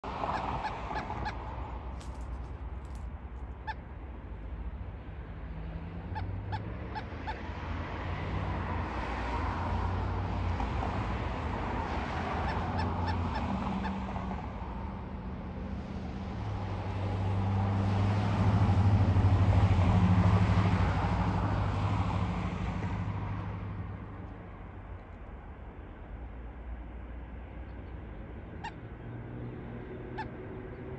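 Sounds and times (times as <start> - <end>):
traffic passing on a road: 0.0 - 30.9.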